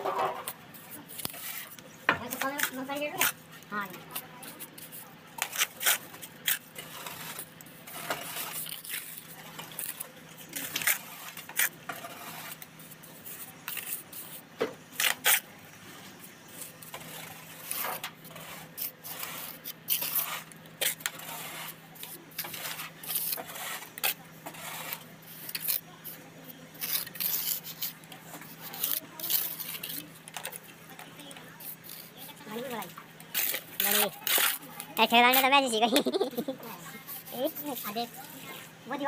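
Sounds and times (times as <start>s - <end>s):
trowel scraping mortar: 0.0s - 38.7s.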